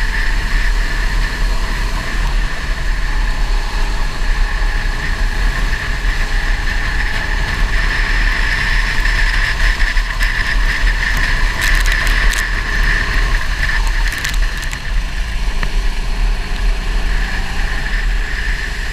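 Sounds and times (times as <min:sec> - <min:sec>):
go-kart engine running: 0:00.0 - 0:18.9
heavy low rumble: 0:00.0 - 0:18.9.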